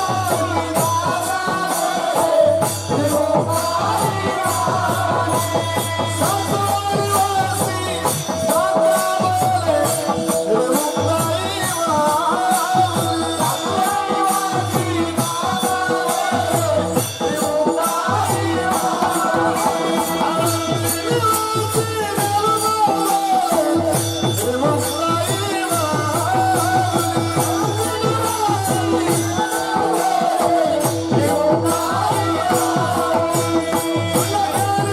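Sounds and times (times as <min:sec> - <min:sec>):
drum strokes: 0:00.0 - 0:34.9
man singing devotional melody: 0:00.0 - 0:34.9
sharp high percussion strokes: 0:00.0 - 0:34.9.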